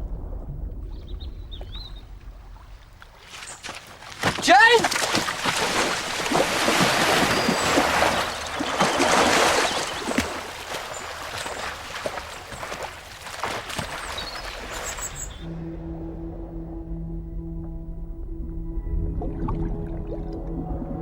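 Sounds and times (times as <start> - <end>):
water splashing and sloshing: 0.0 - 15.5, 18.9 - 21.0.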